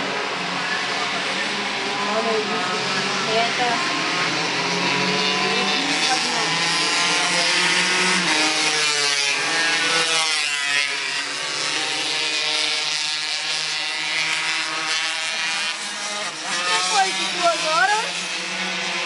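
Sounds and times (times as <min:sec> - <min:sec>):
racing kart engines revving: 0:00.0 - 0:19.0.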